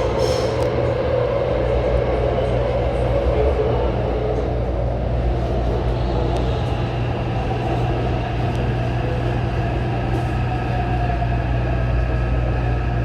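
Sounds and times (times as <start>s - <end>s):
train wheels and motors rumbling: 0.0s - 13.0s.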